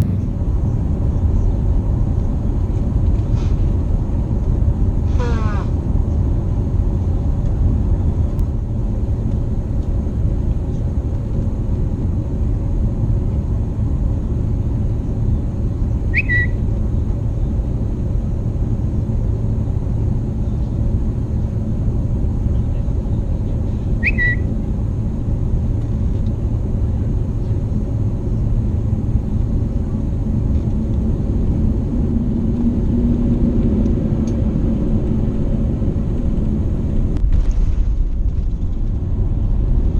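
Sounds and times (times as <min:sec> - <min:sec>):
low hum: 0:00.0 - 0:05.0, 0:06.0 - 0:39.9
aircraft cabin engine rumble: 0:00.0 - 0:39.9.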